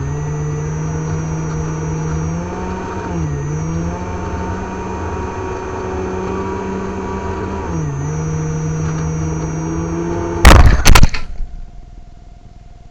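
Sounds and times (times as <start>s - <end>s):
model airplane motor whine: 0.0s - 10.5s.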